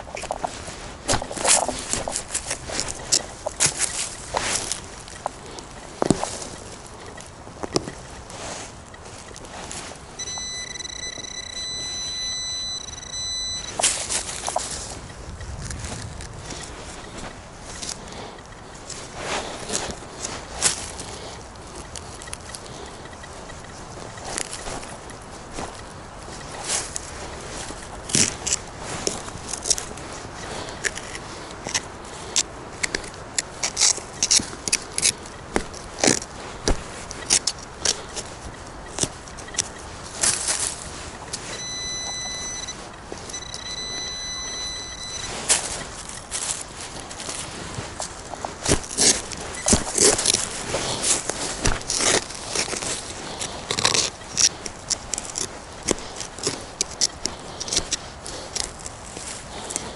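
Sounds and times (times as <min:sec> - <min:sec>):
dry leaves and twigs crunching: 0:00.0 - 0:59.9.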